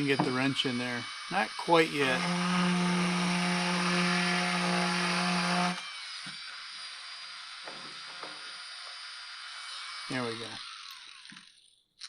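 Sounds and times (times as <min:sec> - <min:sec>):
power grinder grinding plastic: 0:00.0 - 0:12.0.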